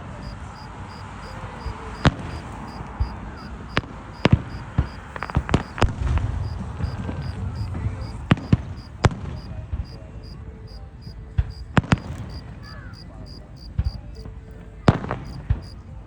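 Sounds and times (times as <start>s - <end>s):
fireworks bangs: 0.0s - 15.8s.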